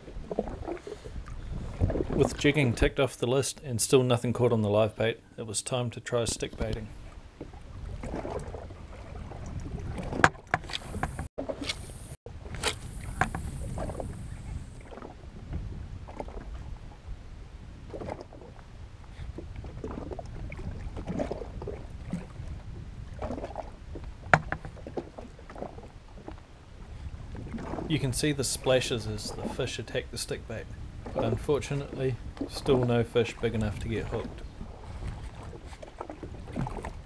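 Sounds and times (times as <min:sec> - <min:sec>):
water lapping against hull: 0:00.0 - 0:37.0.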